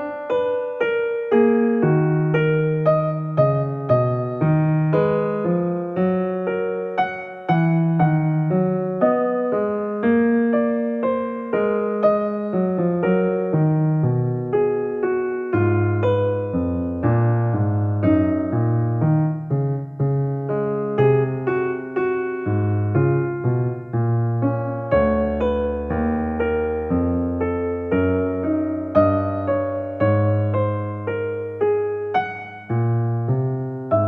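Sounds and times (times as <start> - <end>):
slow gentle piano melody: 0.0 - 34.0.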